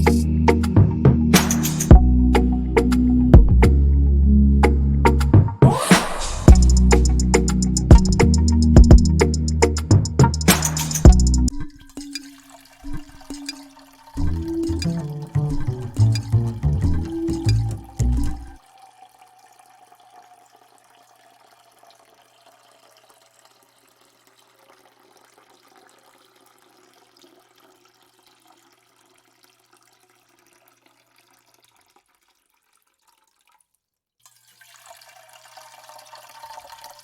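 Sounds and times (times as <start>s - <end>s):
trickling water: 6.5s - 37.0s.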